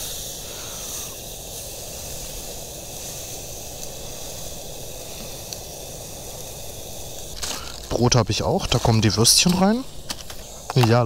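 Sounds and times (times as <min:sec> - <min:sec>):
gas grill hissing: 0:00.0 - 0:11.0.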